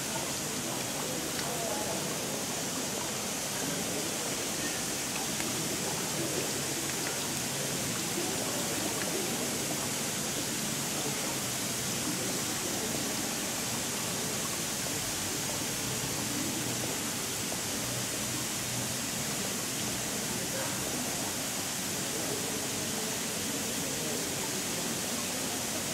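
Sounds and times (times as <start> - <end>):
sprinkler water jets hissing: 0.0 - 25.9.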